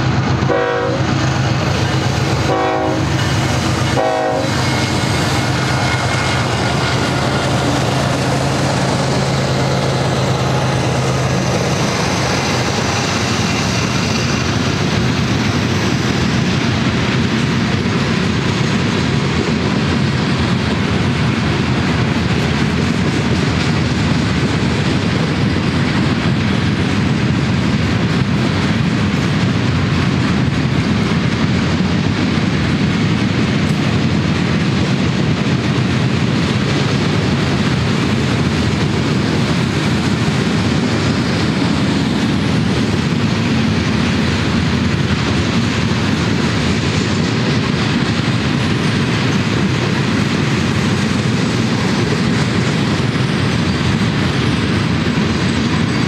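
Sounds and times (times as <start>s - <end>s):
freight train wheels clacking: 0.0s - 56.0s.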